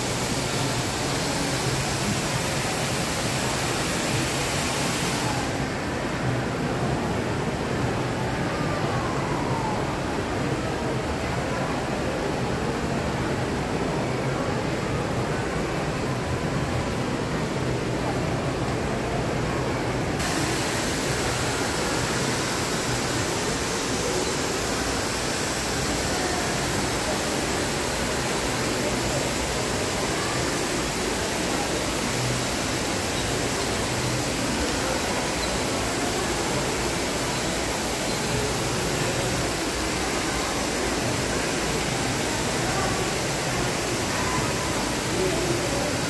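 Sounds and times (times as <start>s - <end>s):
fountain water splashing: 0.0s - 46.0s.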